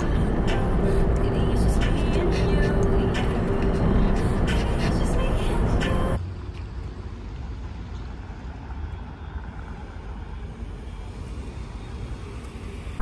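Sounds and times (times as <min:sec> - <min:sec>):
parking lot rumble: 0:00.0 - 0:13.0.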